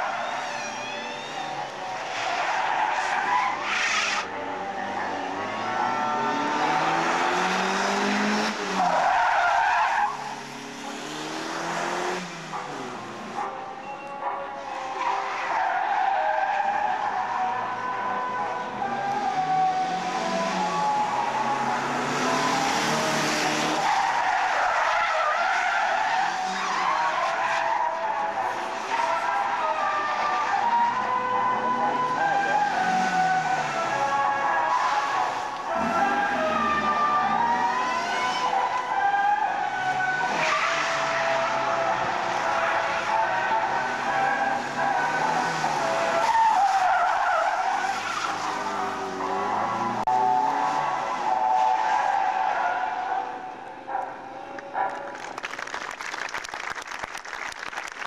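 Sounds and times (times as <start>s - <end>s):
tyres screeching on tarmac: 0.0s - 11.3s, 13.8s - 17.8s, 19.1s - 31.1s, 31.7s - 53.5s
car engine revving: 2.0s - 13.6s, 16.4s - 53.2s.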